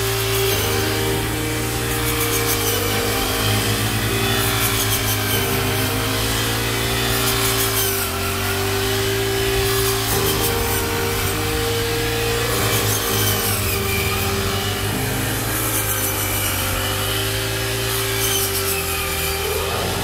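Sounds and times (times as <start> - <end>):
dry mechanical rasping: 0.0 - 20.0
reaper engine running: 0.0 - 20.0.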